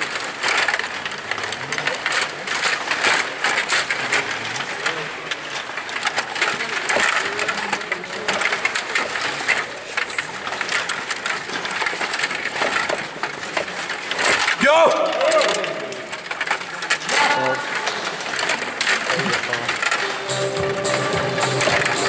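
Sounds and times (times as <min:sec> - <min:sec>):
table hockey rods and puck clattering: 0:00.0 - 0:22.0.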